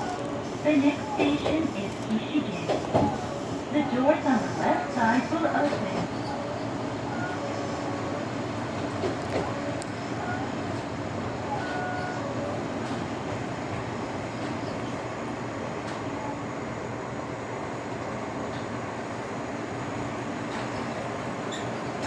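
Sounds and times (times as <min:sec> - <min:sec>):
railcar engine and wheels rumbling: 0:00.0 - 0:22.0.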